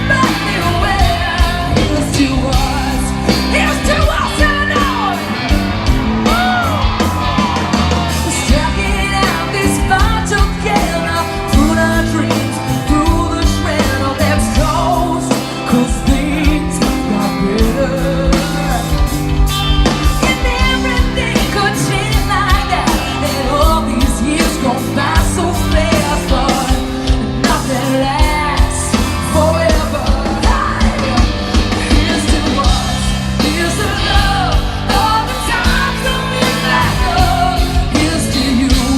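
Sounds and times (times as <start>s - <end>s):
live rock band playing: 0.0s - 38.9s
person singing: 0.0s - 38.9s
steady drum beat: 0.0s - 38.9s.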